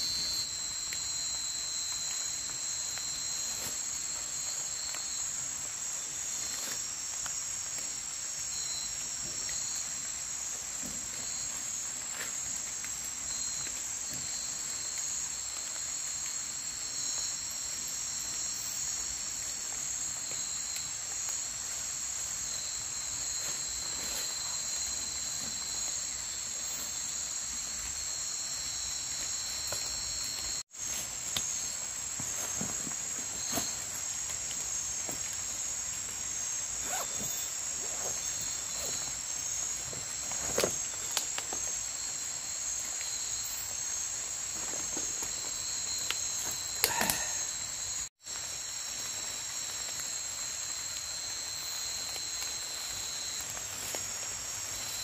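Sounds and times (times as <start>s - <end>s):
night insects trilling: 0.0s - 55.0s.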